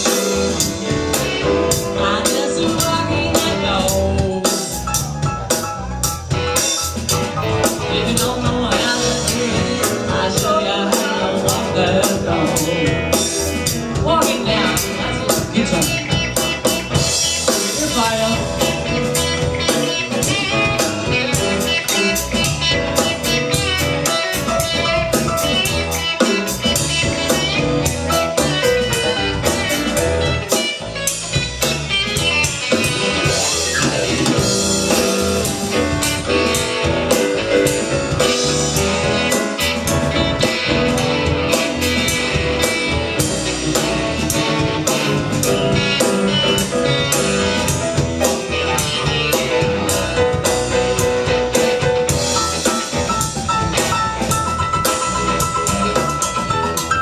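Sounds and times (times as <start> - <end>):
electric guitar: 0.0 - 57.0
live blues band playing: 0.0 - 57.0
steady drum kit: 0.0 - 57.0.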